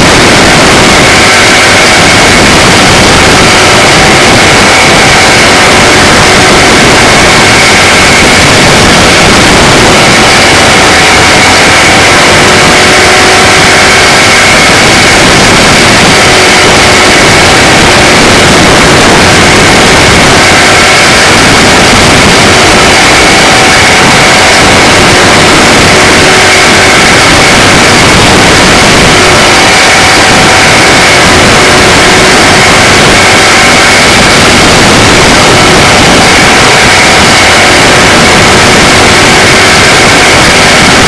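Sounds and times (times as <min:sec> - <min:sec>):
faint high whine: 0:00.0 - 0:41.0
race car engine running hard: 0:00.0 - 0:41.0
wind noise: 0:00.0 - 0:41.0.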